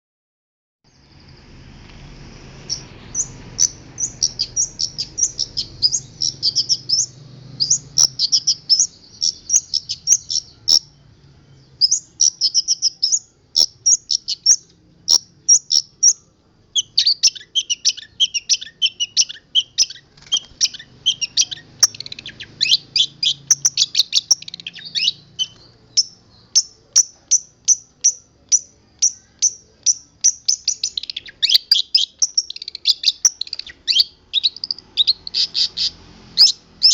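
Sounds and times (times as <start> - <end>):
shrike singing: 2.3 - 36.9.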